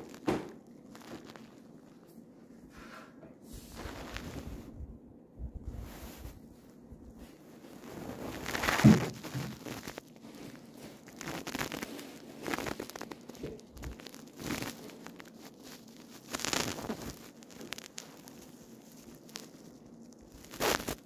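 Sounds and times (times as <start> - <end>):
parakeet preening rasps and rustles: 0.0 - 4.9, 5.6 - 21.0.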